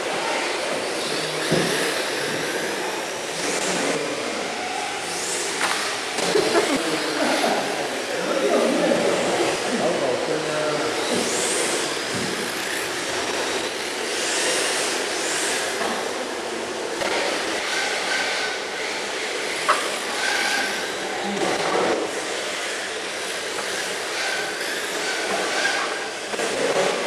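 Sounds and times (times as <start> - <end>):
electric motors whining past: 0.0 - 27.0.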